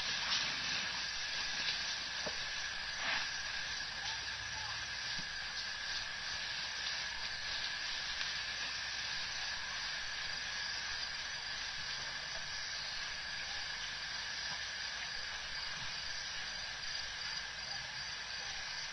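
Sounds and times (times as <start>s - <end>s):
constant high tone: 0.0s - 18.9s
steady hiss: 0.0s - 18.9s.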